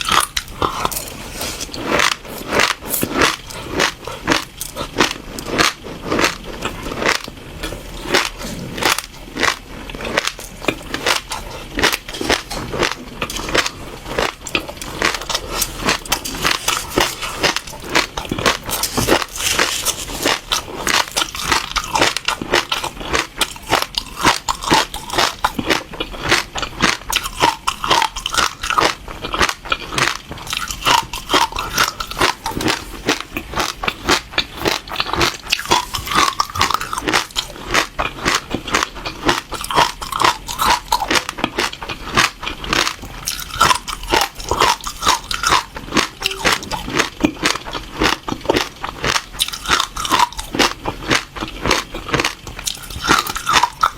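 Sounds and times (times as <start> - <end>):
crunchy seeds being chewed: 0.0 - 53.9.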